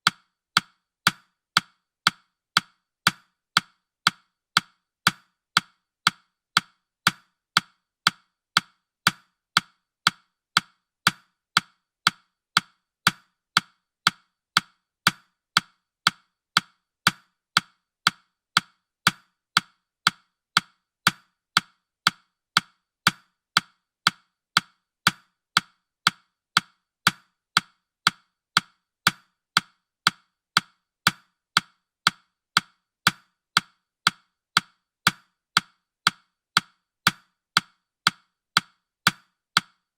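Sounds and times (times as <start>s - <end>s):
clock tick-tock: 0.0s - 39.9s.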